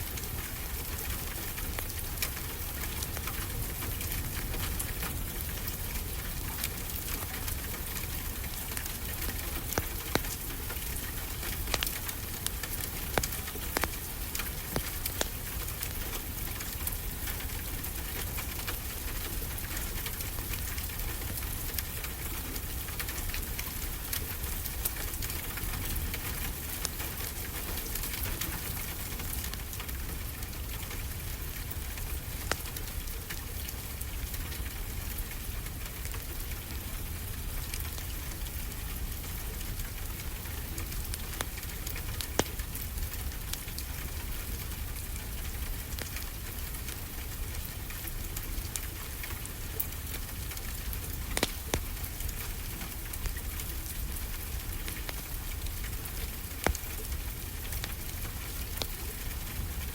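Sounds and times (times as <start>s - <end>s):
fireplace crackling and popping: 0.0s - 59.9s
steady rain: 0.0s - 59.9s.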